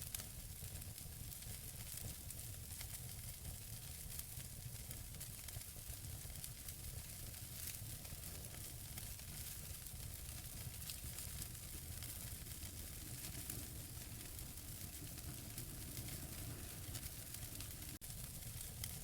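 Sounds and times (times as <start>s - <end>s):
fire hiss: 0.0s - 19.0s
low rumble of fire: 0.0s - 19.0s
logs crackling and popping: 0.1s - 19.0s.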